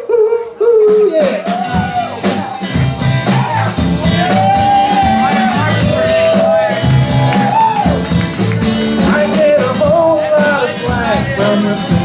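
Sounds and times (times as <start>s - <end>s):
live band playing country-rock: 0.8s - 12.0s
drum beat: 0.9s - 12.0s
bending lead melody: 1.7s - 12.0s.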